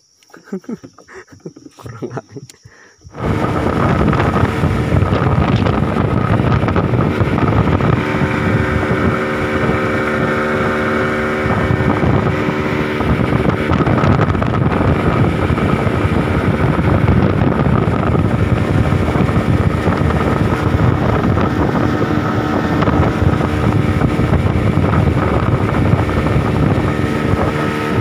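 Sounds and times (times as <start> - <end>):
outboard motor running: 0.4 - 28.0
wind buffeting microphone: 0.8 - 28.0.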